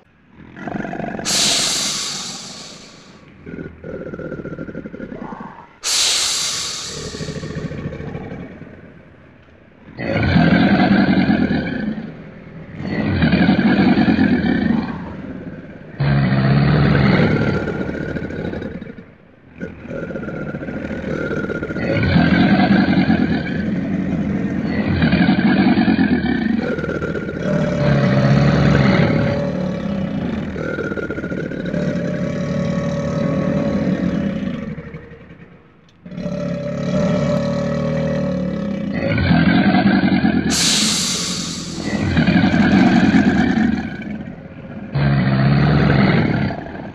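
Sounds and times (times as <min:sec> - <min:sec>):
crocodile bellowing: 0:00.0 - 0:46.9.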